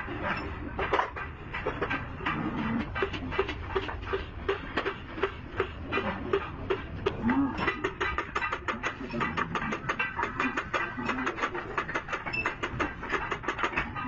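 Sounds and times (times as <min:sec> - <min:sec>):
rapid clicking and tapping: 0:00.0 - 0:14.0.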